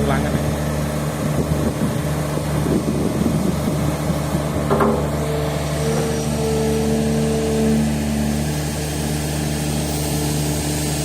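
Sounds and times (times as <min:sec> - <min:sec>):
diesel engine running: 0:00.0 - 0:11.0
steady whine: 0:00.0 - 0:11.0.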